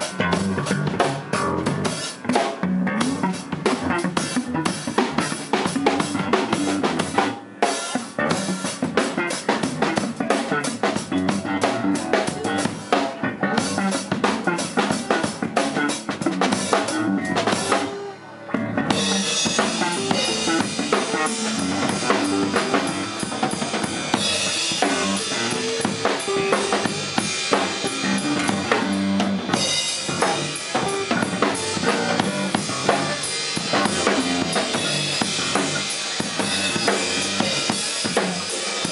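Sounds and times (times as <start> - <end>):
drum kit playing: 0.0 - 38.9.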